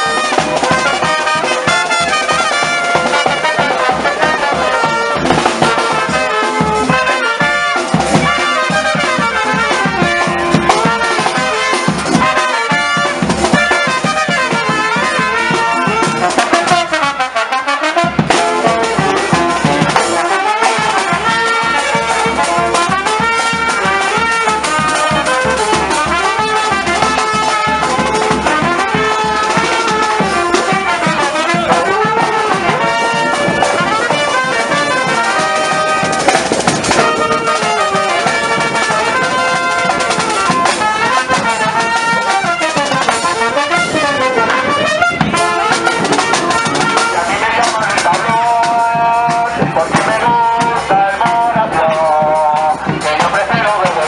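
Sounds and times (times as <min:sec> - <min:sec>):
street brass band playing: 0:00.0 - 0:54.0.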